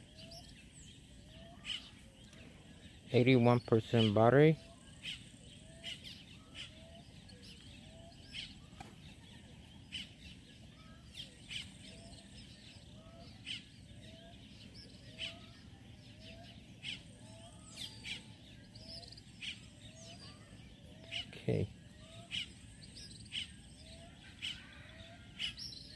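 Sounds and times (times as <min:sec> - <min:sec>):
high bird chirps: 0:00.0 - 0:25.9.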